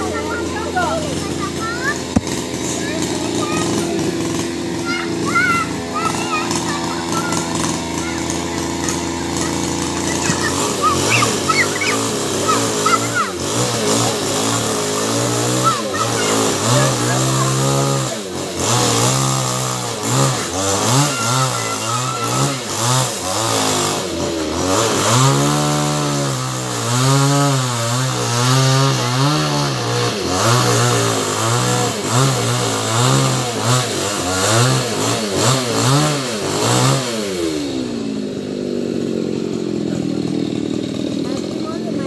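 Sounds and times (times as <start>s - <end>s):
chainsaw revving: 0.0s - 42.0s.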